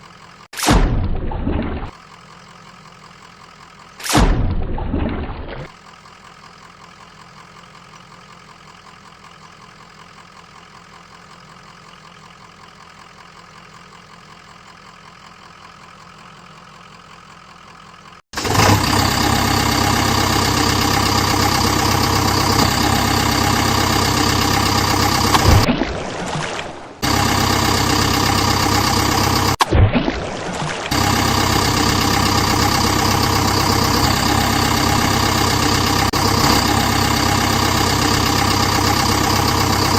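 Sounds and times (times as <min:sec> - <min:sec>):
tractor engine idling: 0:00.0 - 0:00.6, 0:01.9 - 0:04.7, 0:05.4 - 0:25.7, 0:27.0 - 0:29.6, 0:30.7 - 0:39.9.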